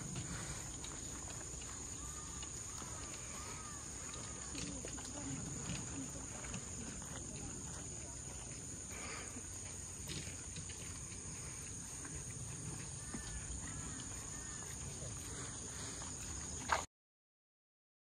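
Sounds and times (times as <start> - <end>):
insects buzzing: 0.0 - 16.8
low outdoor murmur: 0.0 - 16.8.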